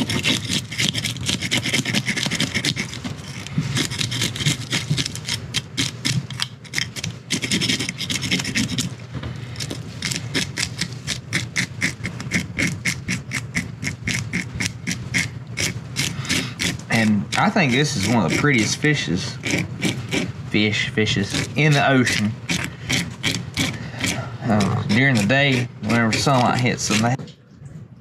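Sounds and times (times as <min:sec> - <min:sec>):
fish scaler scraping scales: 0:00.0 - 0:27.2.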